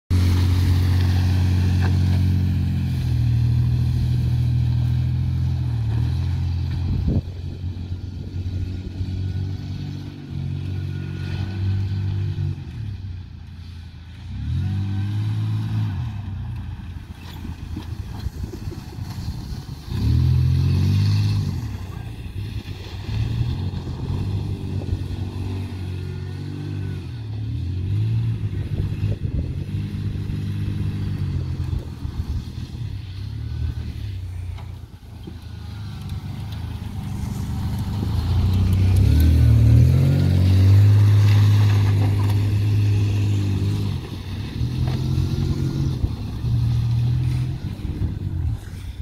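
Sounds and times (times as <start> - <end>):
pickup truck engine revving: 0.1 - 13.0, 17.4 - 49.0.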